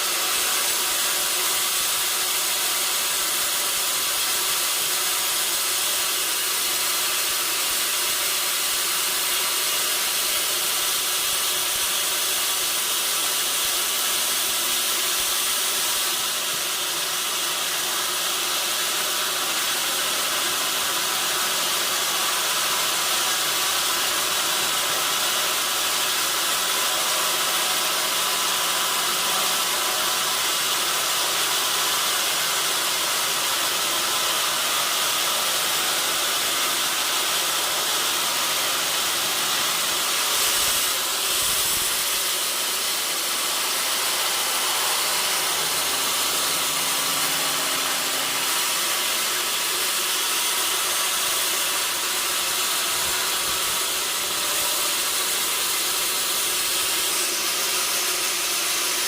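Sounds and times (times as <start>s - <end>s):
saw cutting through log: 0.0s - 59.0s.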